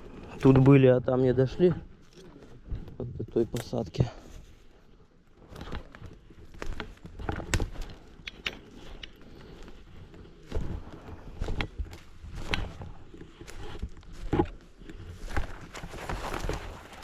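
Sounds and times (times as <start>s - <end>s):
footsteps crunching forest litter: 0.0s - 8.1s, 8.7s - 17.0s.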